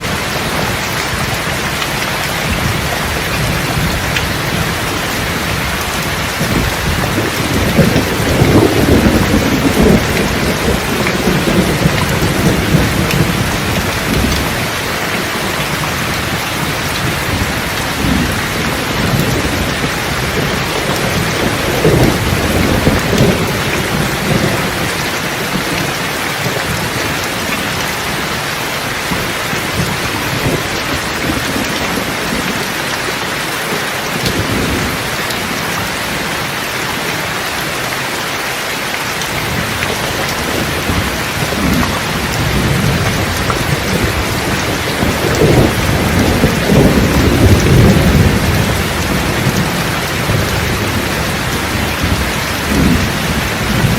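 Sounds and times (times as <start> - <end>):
rolling thunder: 0.0 - 32.8, 39.3 - 53.9
steady rain: 0.0 - 53.9.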